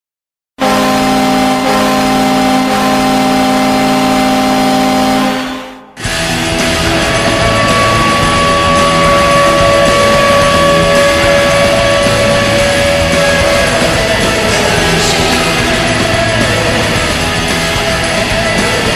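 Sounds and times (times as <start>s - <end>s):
goal horn: 0.6s - 18.9s
rock music with electric guitar: 0.6s - 18.9s.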